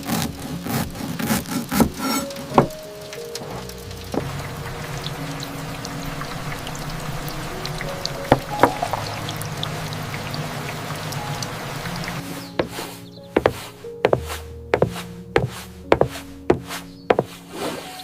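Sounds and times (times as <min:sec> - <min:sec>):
running water: 0:00.0 - 0:17.7
soft low music notes: 0:00.0 - 0:18.0.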